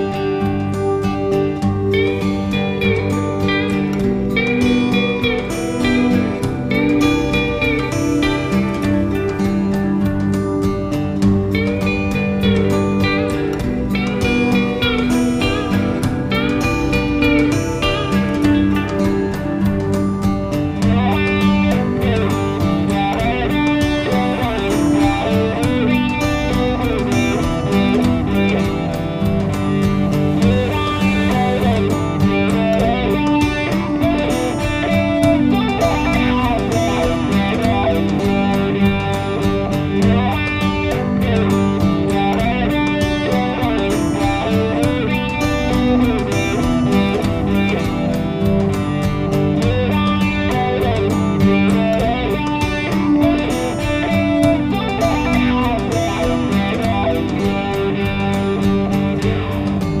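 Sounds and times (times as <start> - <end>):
guitar music over steady beat: 0.0 - 60.0.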